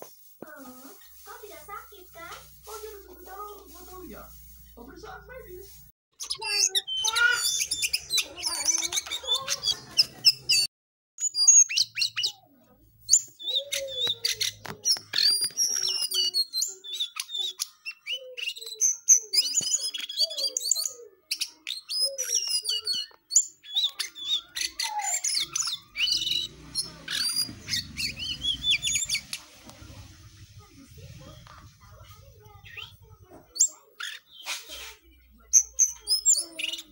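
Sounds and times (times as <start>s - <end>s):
songbird singing: 6.2s - 36.9s.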